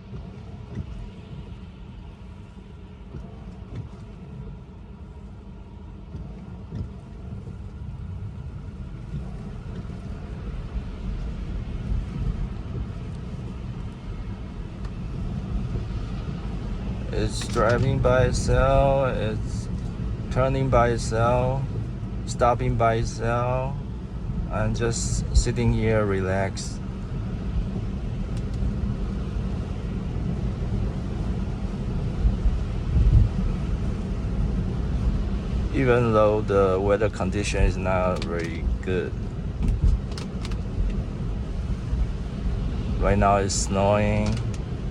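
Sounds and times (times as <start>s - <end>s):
tyre noise on wet road: 0.0s - 44.9s.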